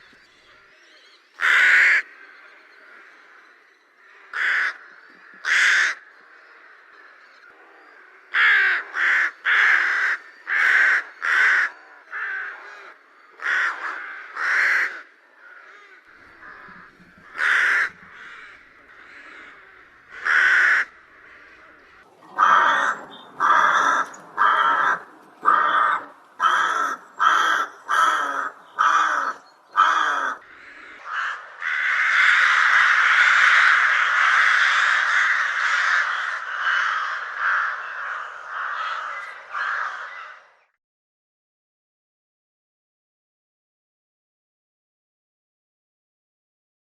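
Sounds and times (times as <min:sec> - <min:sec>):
rook cawing harshly: 0:00.7 - 0:40.7.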